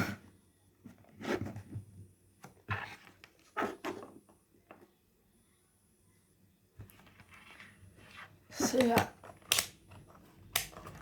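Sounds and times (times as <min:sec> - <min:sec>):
rustling and scraping of objects: 0:00.0 - 0:04.9, 0:06.8 - 0:11.0.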